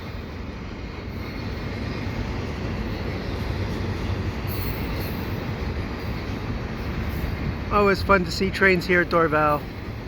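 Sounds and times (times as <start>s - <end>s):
freight train wheels rumbling on rails: 0.0s - 10.0s.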